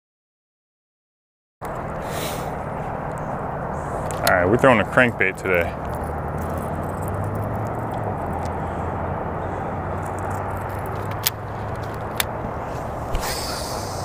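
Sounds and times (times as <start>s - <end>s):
low outdoor rumble: 1.6s - 14.0s.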